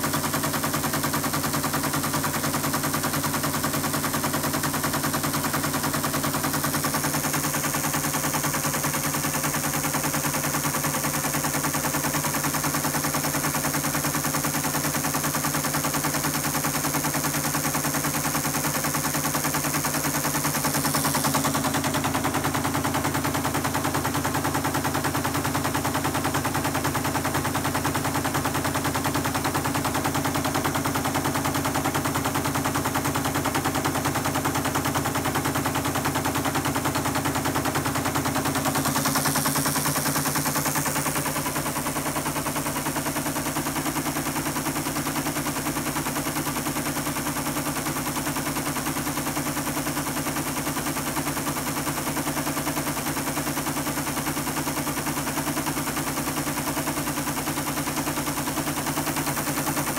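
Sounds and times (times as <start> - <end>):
teletype motor humming: 0.0 - 59.9.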